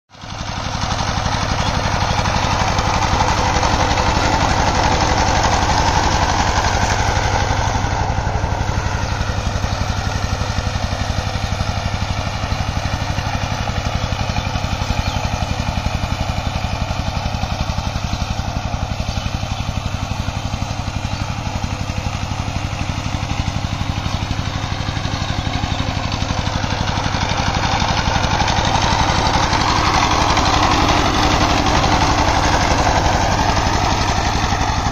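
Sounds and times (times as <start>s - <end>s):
tiller diesel engine chugging: 0.1s - 34.9s.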